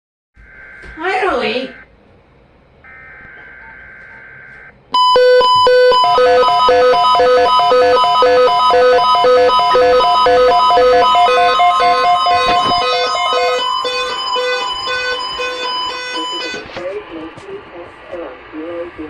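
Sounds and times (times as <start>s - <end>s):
buzzing data burst: 0.4s - 1.9s, 2.8s - 16.7s
two-tone electronic alarm beeping: 0.4s - 1.9s, 2.8s - 16.8s.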